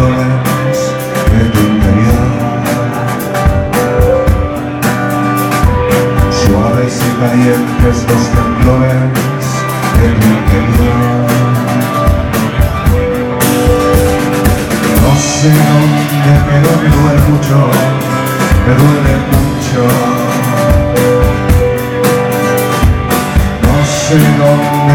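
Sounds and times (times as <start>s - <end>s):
rock band playing: 0.0s - 24.9s.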